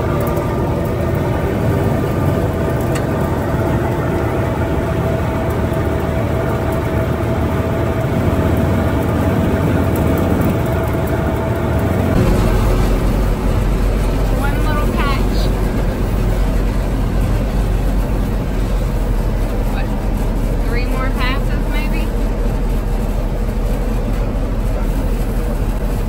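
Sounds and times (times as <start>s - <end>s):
combine harvester hum: 0.0s - 26.0s.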